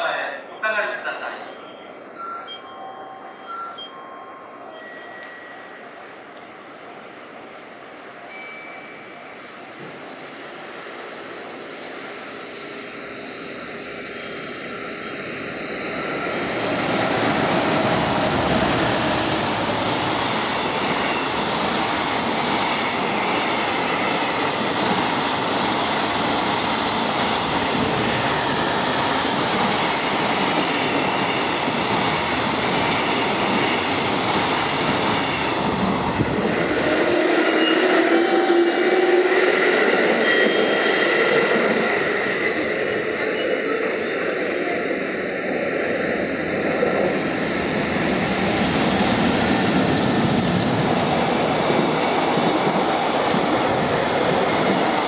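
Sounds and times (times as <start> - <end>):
freight train wheels rolling on rails: 3.2 - 55.0.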